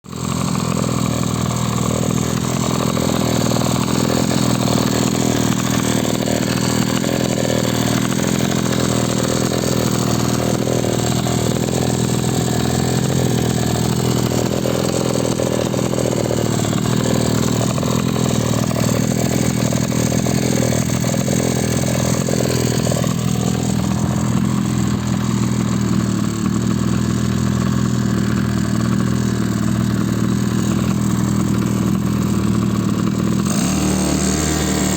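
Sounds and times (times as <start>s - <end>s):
outboard motor running: 0.0s - 34.9s.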